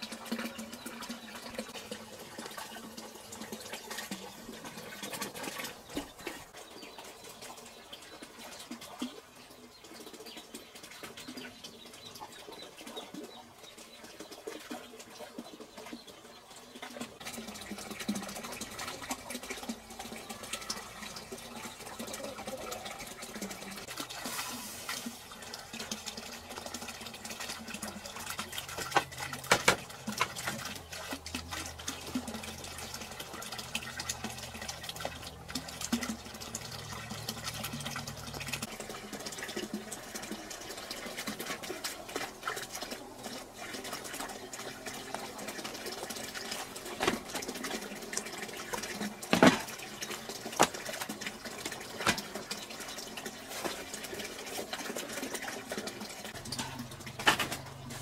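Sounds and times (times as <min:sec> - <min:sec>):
water splashing and sloshing: 0:00.0 - 0:58.0.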